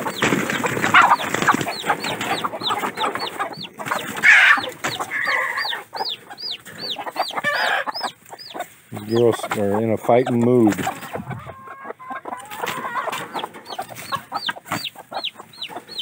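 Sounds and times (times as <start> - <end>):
chick peeping: 0.0 - 16.0
hens clucking and squawking: 0.0 - 16.0.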